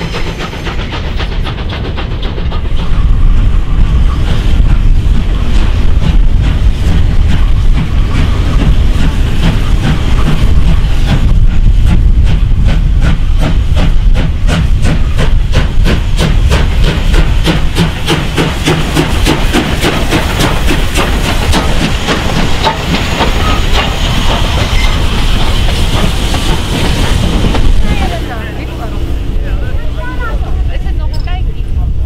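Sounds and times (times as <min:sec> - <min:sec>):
steam hiss: 0:00.0 - 0:31.5
wheels clattering on rail joints: 0:00.0 - 0:31.8
steam locomotive chuffing: 0:00.0 - 0:32.0.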